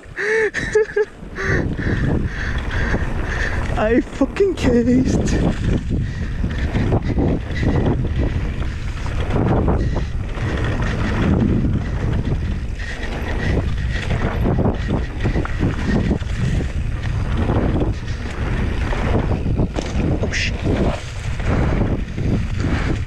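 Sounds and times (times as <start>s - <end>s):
bike rattling and knocking: 0.0s - 23.0s
knobby tyres rolling on dirt: 0.0s - 23.0s
wind buffeting microphone: 0.0s - 23.0s.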